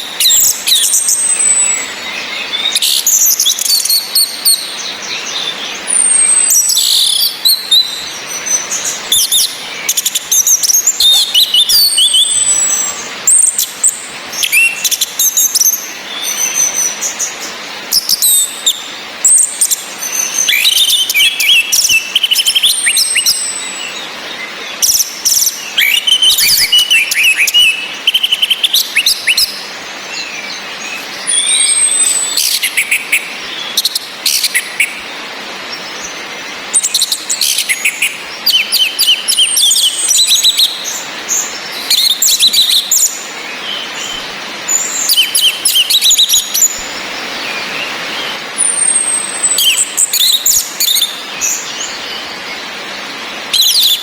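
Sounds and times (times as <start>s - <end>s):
rain hiss: 0.0s - 54.0s
thrushes chirping and singing: 0.0s - 54.0s.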